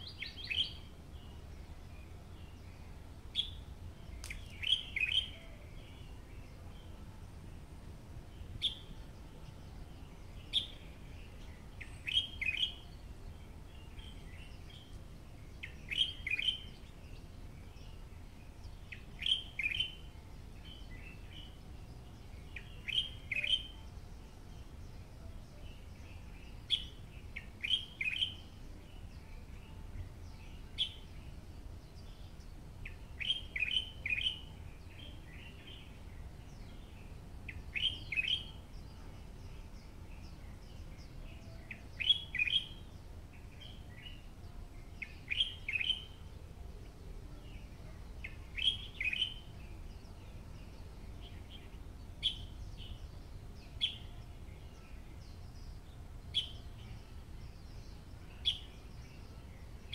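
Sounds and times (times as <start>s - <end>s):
low steady background rumble: 0.0s - 59.9s
small birds chirping: 0.0s - 59.9s.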